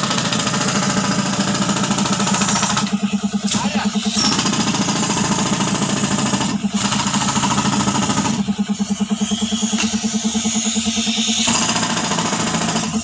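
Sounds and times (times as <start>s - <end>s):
air compressor: 0.0s - 13.0s
jackhammer hammering rock: 0.0s - 13.0s.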